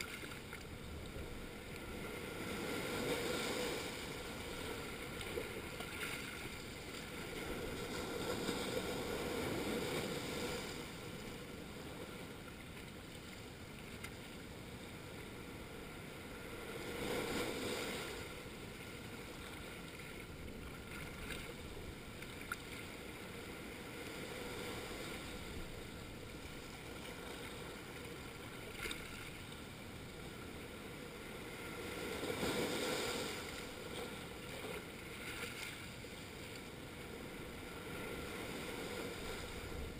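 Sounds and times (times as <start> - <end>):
small waves breaking on rocks: 0.0 - 14.4, 16.3 - 39.9.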